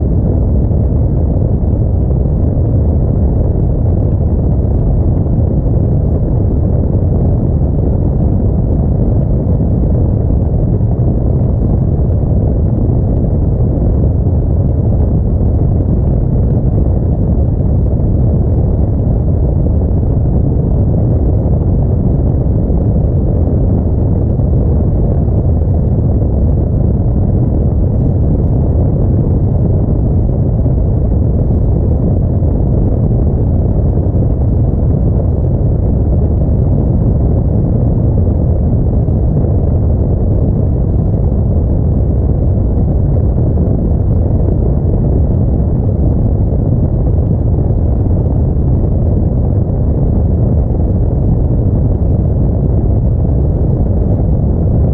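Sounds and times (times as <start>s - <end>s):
car driving low rumble: 0.0s - 54.9s.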